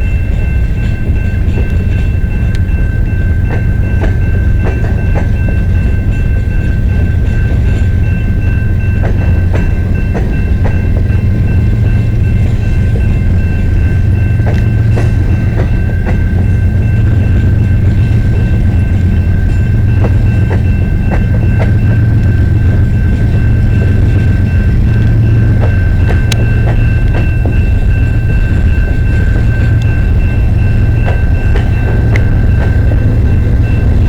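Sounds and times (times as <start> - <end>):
train cars rumbling: 0.0 - 34.0.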